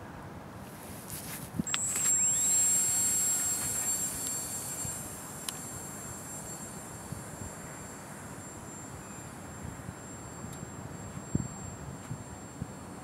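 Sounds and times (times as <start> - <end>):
electric model plane motor whine: 1.1 - 13.0.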